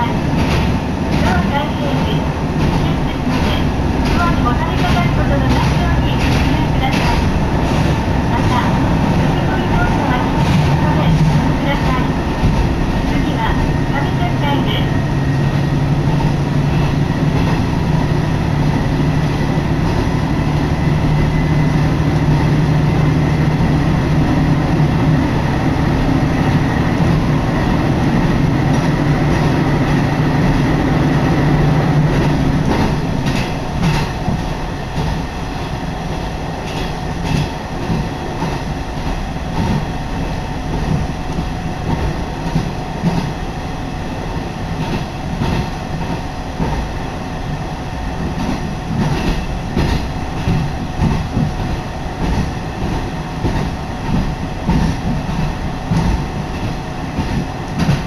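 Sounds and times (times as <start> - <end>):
train wheels clacking on rail joints: 0.0 - 14.9, 16.0 - 23.8, 26.4 - 43.4, 44.7 - 46.9, 48.2 - 58.0.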